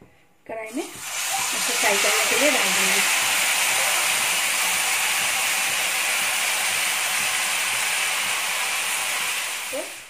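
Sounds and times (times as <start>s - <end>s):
oil sizzling around frying chicken: 0.8s - 10.0s.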